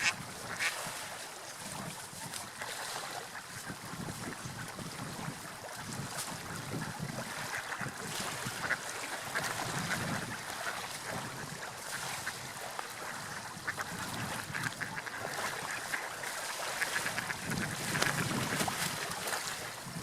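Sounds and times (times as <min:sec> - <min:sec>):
sea waves washing: 0:00.0 - 0:20.0.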